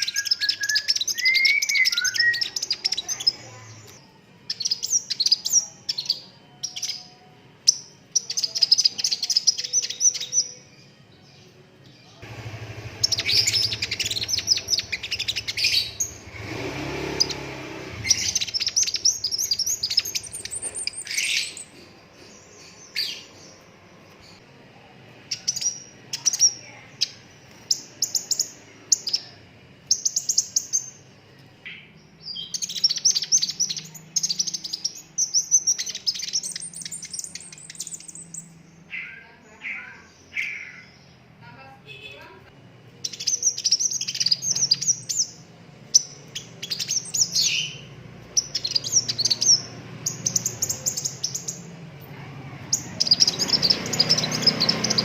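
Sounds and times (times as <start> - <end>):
bird singing trills: 0.0 - 24.4, 25.3 - 41.3, 43.0 - 51.9, 52.6 - 55.0.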